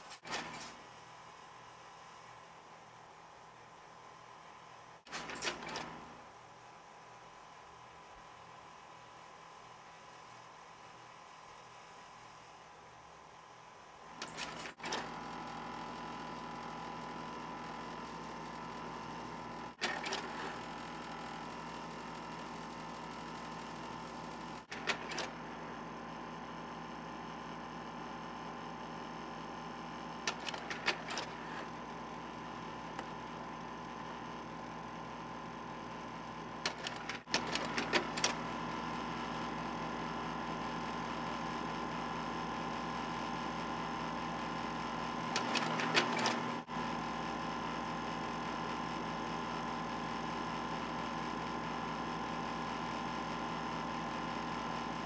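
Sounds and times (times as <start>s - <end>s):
projector mechanical whir: 0.0s - 55.0s.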